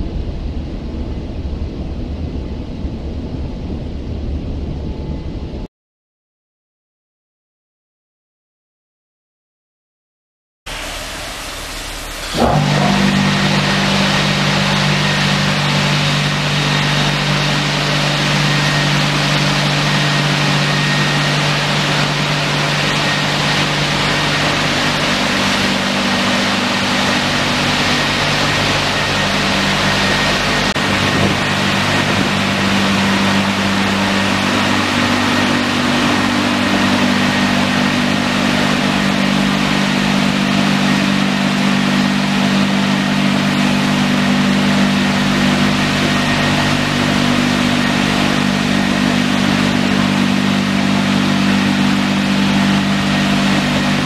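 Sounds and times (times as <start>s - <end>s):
dryer blowers rushing air: 0.0s - 5.7s, 10.7s - 54.0s
motor hum: 10.7s - 54.0s.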